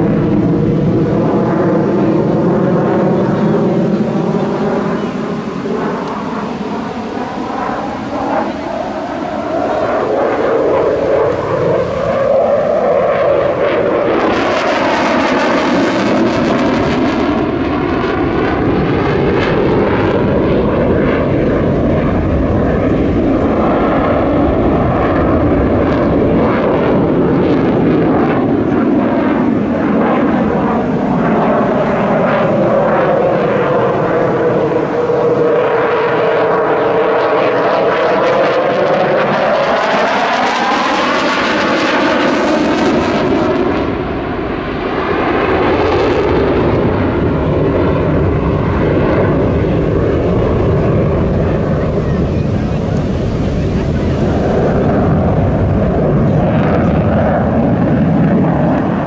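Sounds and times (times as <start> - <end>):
fighter jet engines roaring: 0.0 - 59.0.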